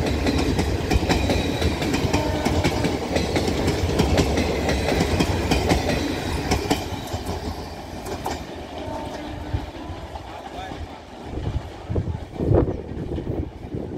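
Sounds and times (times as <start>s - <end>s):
train coaches rumbling past: 0.0s - 13.9s
wheels clicking over rail joints: 0.0s - 13.9s.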